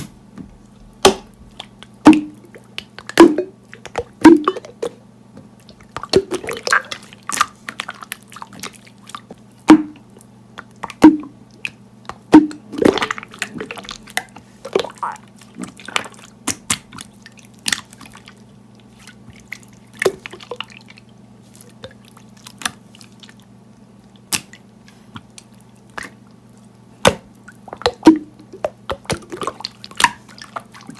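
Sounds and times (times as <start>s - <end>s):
steady low hum: 0.0s - 8.4s, 9.1s - 30.9s.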